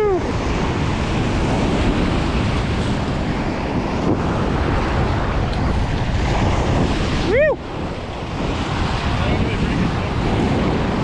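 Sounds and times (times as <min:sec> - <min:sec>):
wind buffeting microphone: 0:00.0 - 0:11.0
whitewater rushing: 0:02.2 - 0:11.0.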